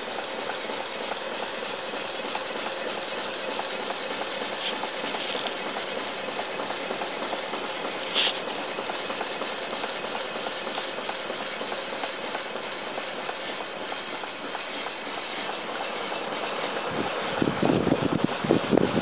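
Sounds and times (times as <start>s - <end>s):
steady hiss: 1.4s - 18.6s.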